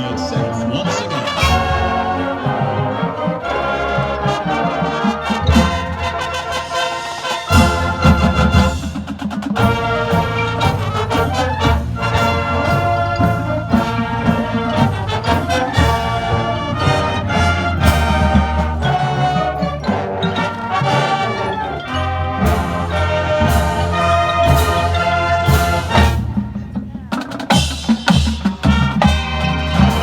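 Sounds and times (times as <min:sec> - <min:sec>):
marching band playing: 0:00.0 - 0:30.0
sharp percussion hits: 0:05.4 - 0:30.0.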